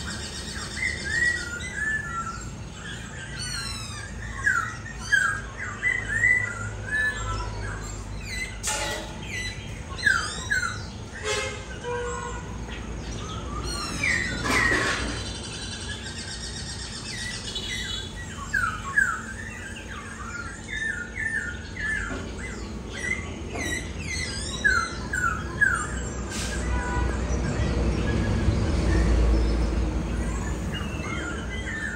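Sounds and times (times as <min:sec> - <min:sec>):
bird singing whistled notes: 0:00.0 - 0:31.9
bird trill: 0:00.0 - 0:31.9.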